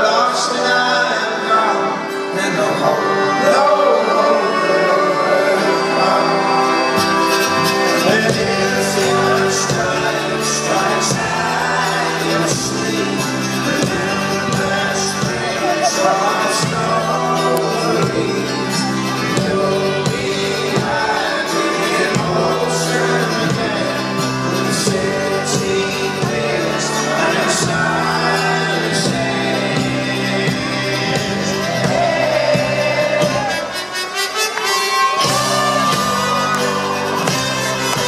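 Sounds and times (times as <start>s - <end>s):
crowd singing along: 0.0s - 38.0s
folk-rock band with singing: 0.0s - 38.0s.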